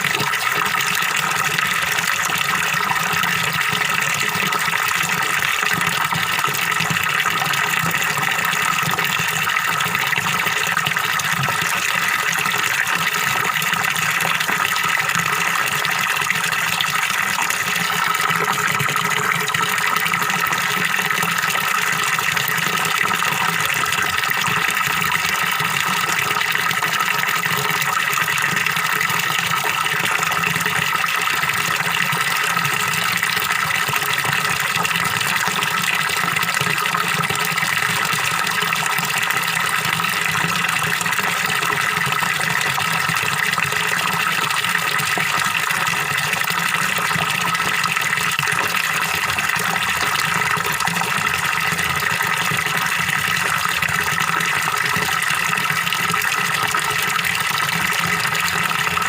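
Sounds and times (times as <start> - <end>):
small waterfall splashing into pond: 0.0 - 59.0.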